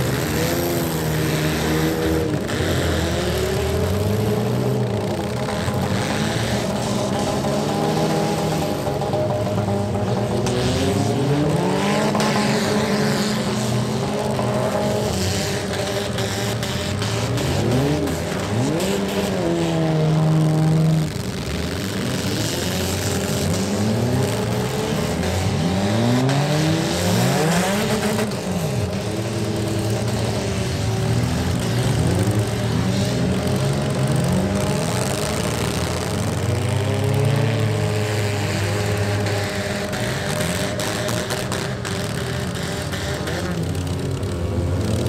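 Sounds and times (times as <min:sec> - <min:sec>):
car engines revving: 0:00.0 - 0:45.0.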